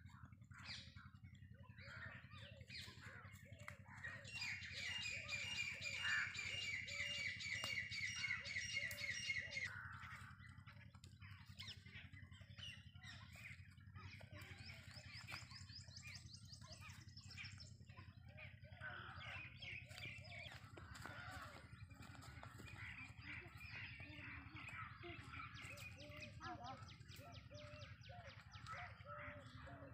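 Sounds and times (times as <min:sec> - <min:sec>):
wild birds chirping: 0:00.0 - 0:29.9.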